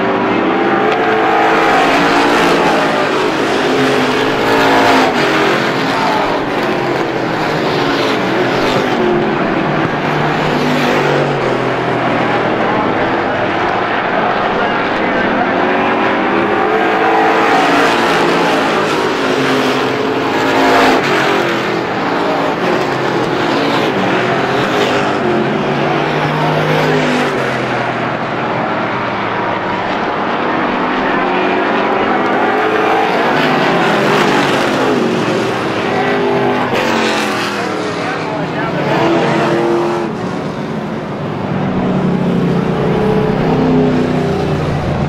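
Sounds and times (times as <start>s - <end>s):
race car engines passing: 0.0s - 45.0s.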